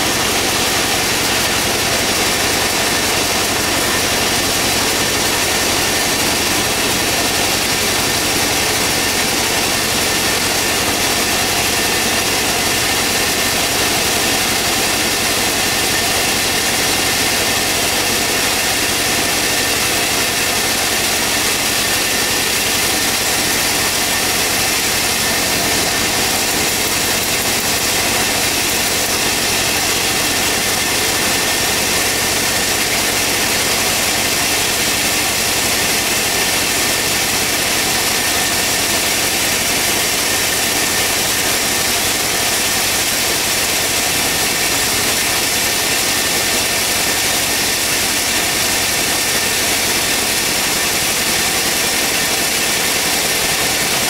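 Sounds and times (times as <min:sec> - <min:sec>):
sawmill engine drone: 0:00.0 - 0:54.0.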